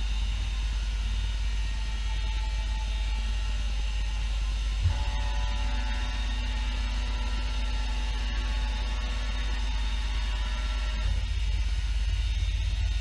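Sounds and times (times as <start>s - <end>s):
machine low hum and whine: 0.0s - 13.0s.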